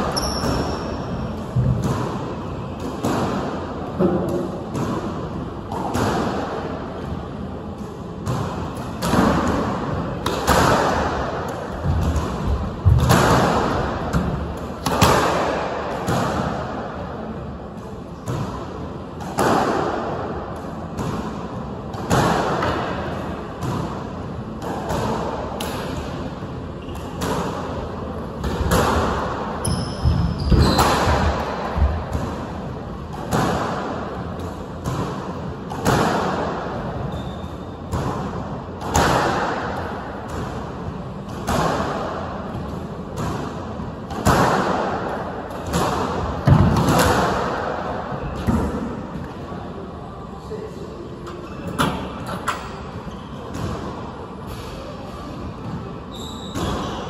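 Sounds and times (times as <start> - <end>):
squash ball smacking: 0.0 - 7.1, 7.8 - 17.0, 18.2 - 27.7, 28.4 - 49.3.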